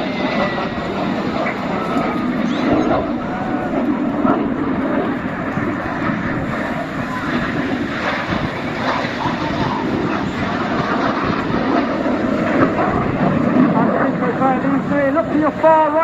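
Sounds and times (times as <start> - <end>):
jet engines rumbling: 0.0 - 16.0
wind on microphone: 0.0 - 16.0.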